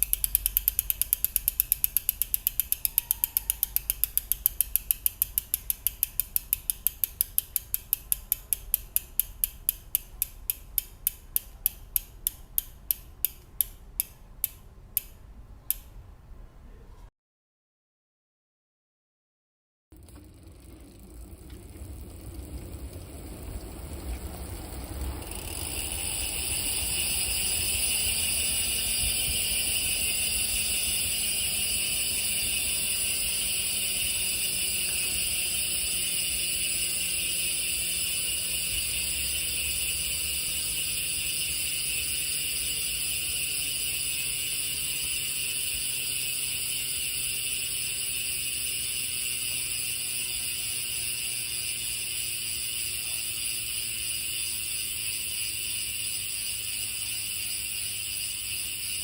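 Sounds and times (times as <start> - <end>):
bicycle hub freewheel clicking: 0.0 - 15.1, 20.0 - 59.0.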